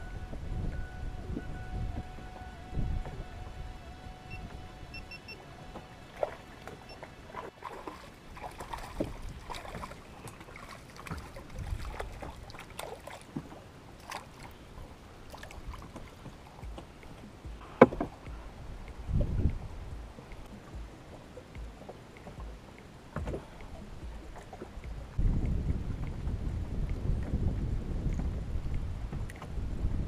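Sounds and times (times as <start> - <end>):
waves slapping against boat hull: 5.7 - 30.0.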